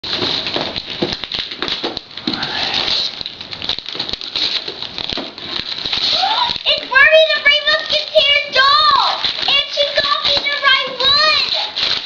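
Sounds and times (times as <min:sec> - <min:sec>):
wrapping paper tearing and crinkling: 0:00.0 - 0:12.0.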